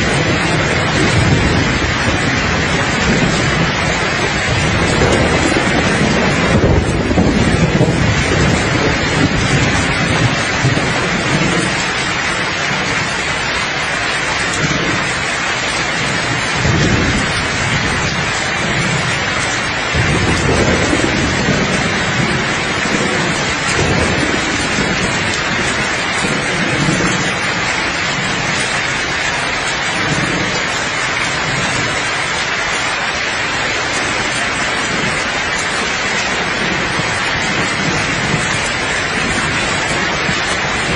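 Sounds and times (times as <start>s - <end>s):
low thunder rumbling: 0.0s - 40.9s
steady rain falling: 0.0s - 40.9s.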